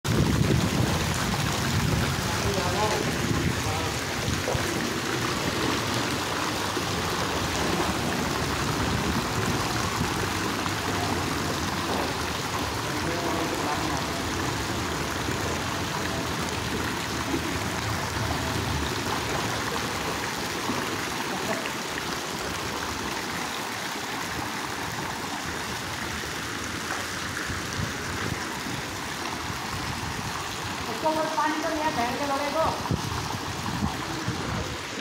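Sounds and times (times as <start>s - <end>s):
fountain jets splashing into pool: 0.0s - 35.0s.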